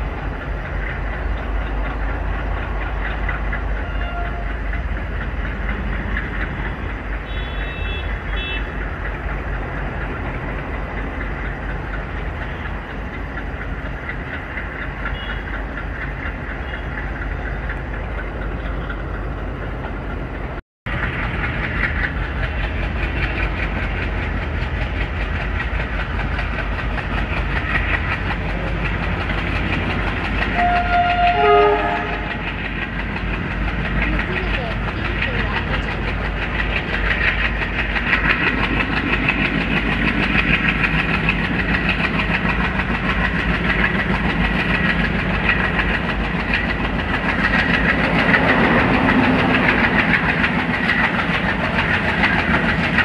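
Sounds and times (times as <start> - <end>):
locomotive engine working: 0.0 - 53.0
train wheels rumbling on track: 0.0 - 53.0.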